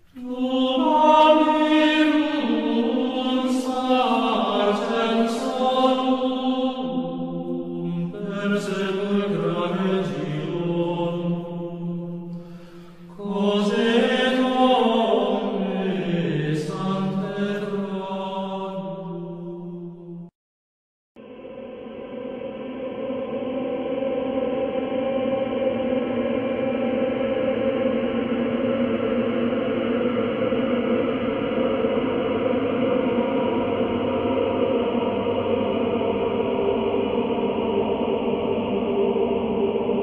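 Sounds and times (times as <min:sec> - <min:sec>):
choral chanting voices: 0:00.0 - 0:20.3, 0:21.2 - 0:40.0.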